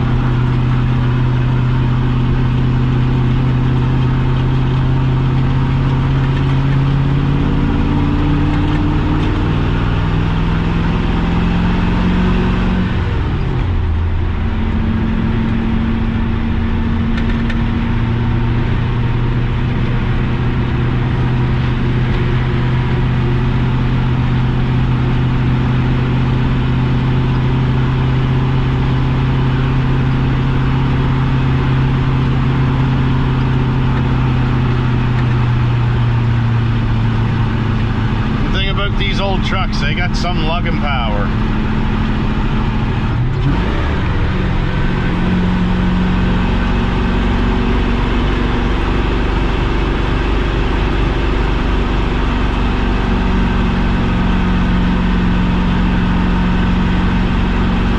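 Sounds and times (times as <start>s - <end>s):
truck engine revving and lugging: 0.0s - 57.9s.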